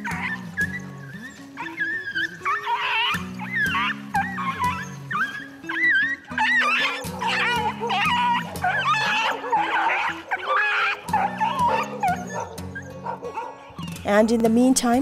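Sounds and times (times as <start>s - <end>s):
dog yelping and whining: 0.0s - 14.0s
background music with low notes: 0.0s - 15.0s.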